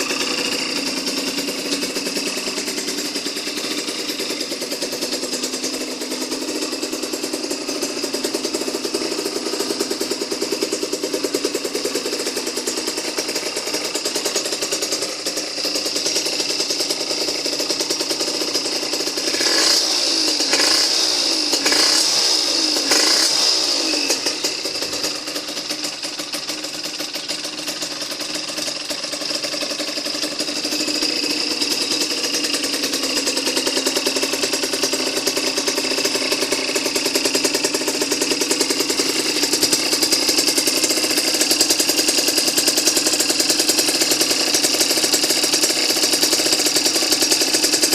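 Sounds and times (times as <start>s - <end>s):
two-stroke engine idling and revving: 0.0s - 47.9s.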